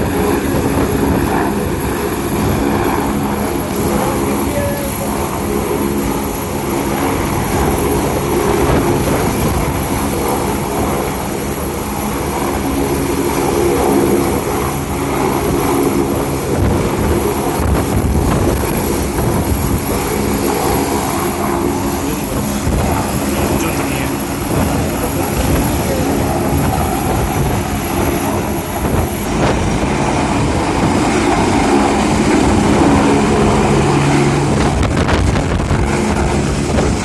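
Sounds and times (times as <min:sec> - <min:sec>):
helicopter engine and rotor: 0:00.0 - 0:37.0.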